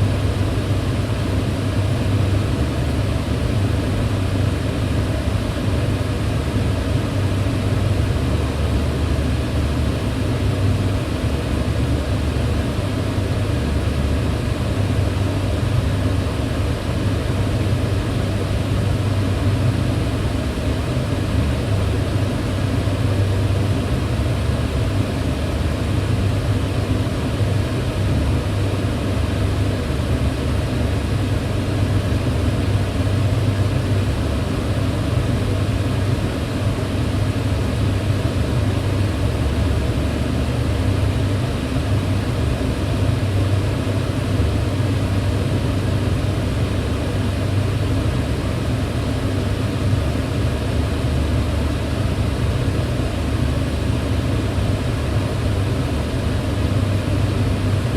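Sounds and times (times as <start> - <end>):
range hood fan running: 0.0 - 57.9.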